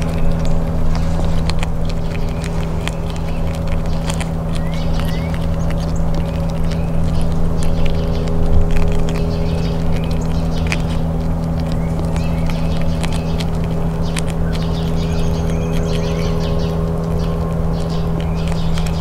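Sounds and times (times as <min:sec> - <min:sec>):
squirrel chewing clicks: 0:00.0 - 0:19.0
steady machine hum: 0:00.0 - 0:19.0.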